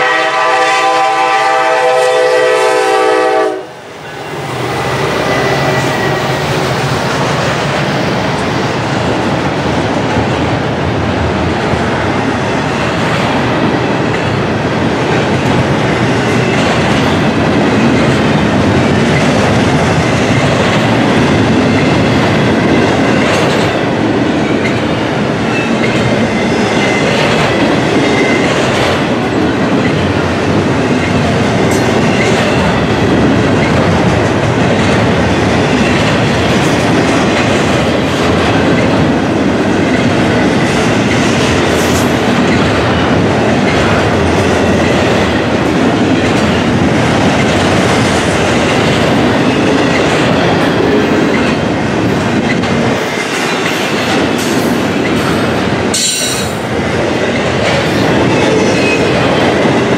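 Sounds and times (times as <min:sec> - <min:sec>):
train wheels rumbling on rail: 0:00.0 - 0:59.9
clickety-clack over rail joints: 0:05.2 - 0:59.9.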